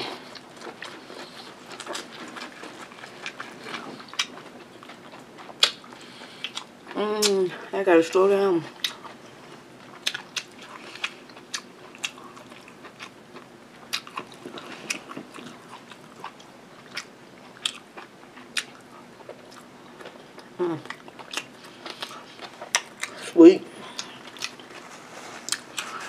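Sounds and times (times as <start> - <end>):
chewing and biting food: 0.0 - 7.4, 8.7 - 23.2, 23.8 - 26.0.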